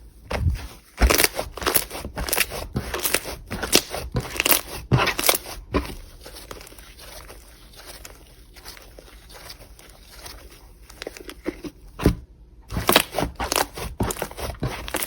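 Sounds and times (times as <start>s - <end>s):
slime crackling and squishing: 0.3s - 12.1s, 12.7s - 15.0s.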